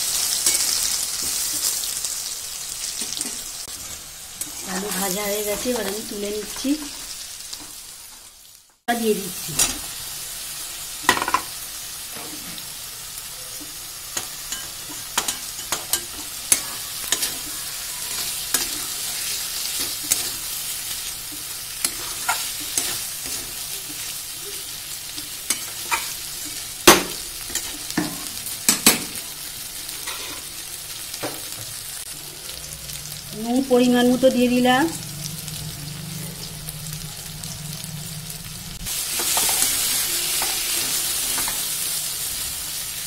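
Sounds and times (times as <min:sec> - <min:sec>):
potatoes sizzling in oil: 0:00.0 - 0:43.0.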